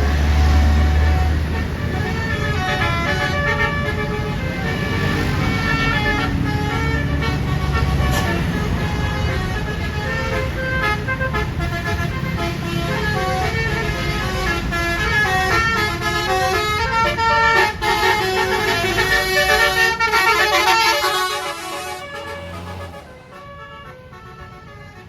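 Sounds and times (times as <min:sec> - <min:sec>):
musical air horn melody: 0:00.0 - 0:25.0.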